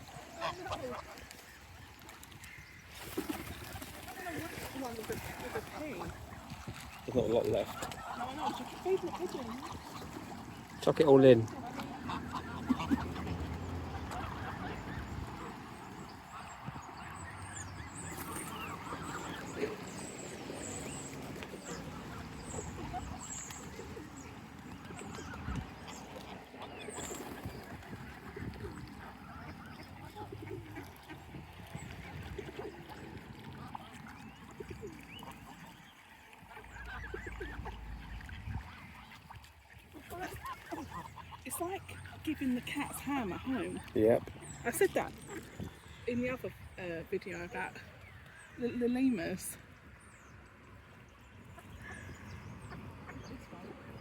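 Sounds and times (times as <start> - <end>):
geese and ducks honking: 0.0 - 2.6, 4.0 - 46.1.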